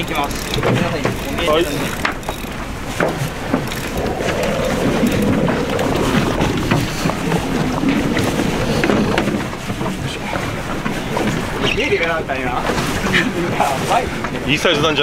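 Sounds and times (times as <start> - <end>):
outboard engines running: 0.0 - 15.0.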